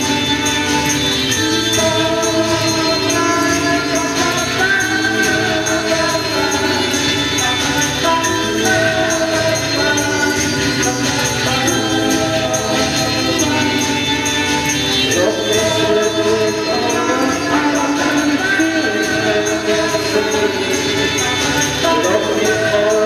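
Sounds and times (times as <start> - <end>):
thin high percussion: 0.0 - 23.0
woman singing: 0.0 - 23.0.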